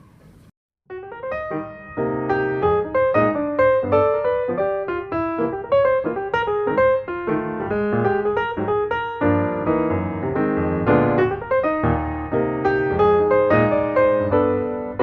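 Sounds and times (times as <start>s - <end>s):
solo piano music: 0.9s - 15.0s.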